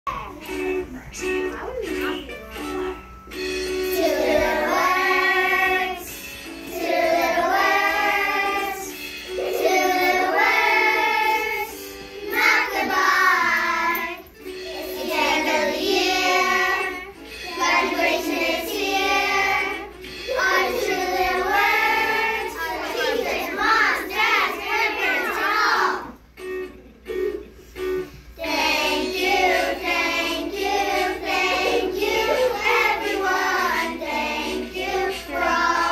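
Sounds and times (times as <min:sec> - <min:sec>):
children singing in unison: 0:03.8 - 0:26.1, 0:28.4 - 0:35.9.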